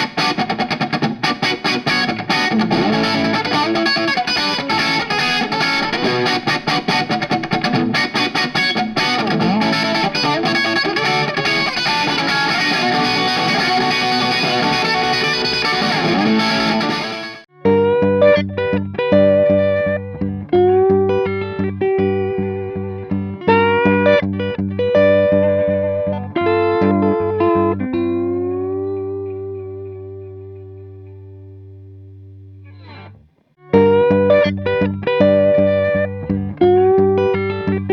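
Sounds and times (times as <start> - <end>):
clean guitar picking notes: 0.0 - 37.9
distorted electric guitar: 0.0 - 37.9.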